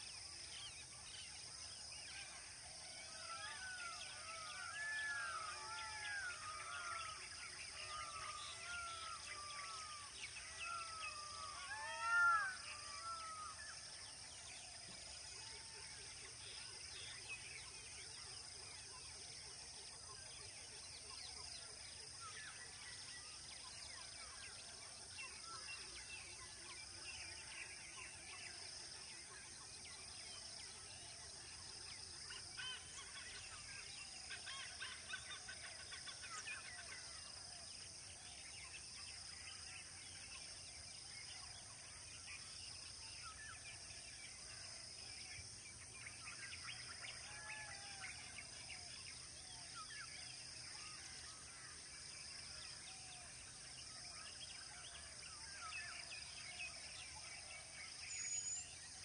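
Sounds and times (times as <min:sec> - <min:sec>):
steady high-pitched hiss: 0:00.0 - 0:59.0.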